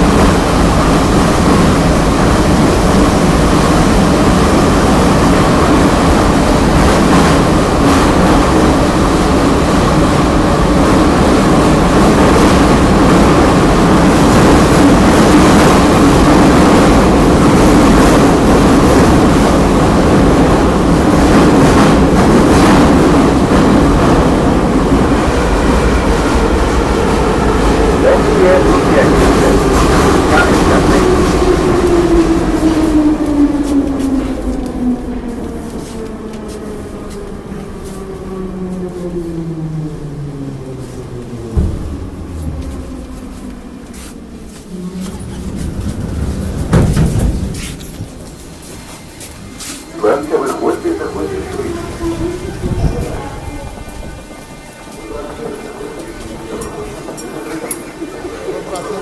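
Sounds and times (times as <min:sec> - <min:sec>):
wheels rumbling on rails: 0:00.0 - 0:59.0.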